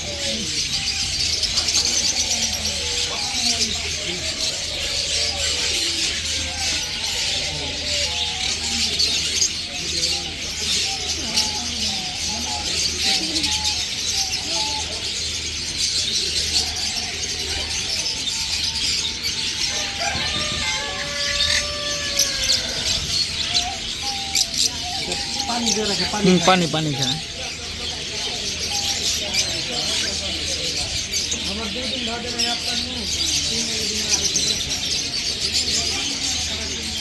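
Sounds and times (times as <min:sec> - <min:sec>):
caged birds chirping: 0:00.0 - 0:37.0.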